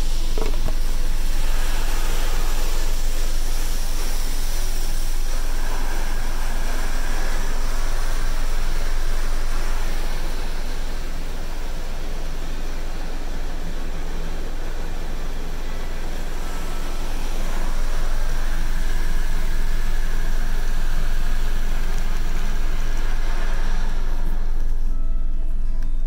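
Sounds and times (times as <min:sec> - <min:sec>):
car wash water spraying on car: 0:00.0 - 0:25.2.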